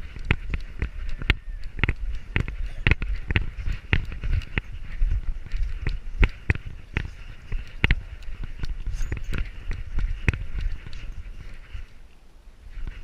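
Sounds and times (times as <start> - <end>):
camera thumps and rustle: 0.0 - 11.9.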